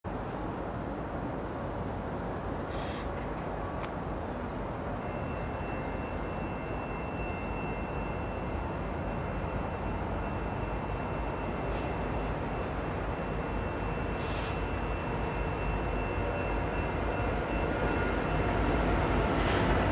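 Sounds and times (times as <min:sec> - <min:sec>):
diesel locomotive rumble: 0:00.2 - 0:19.9.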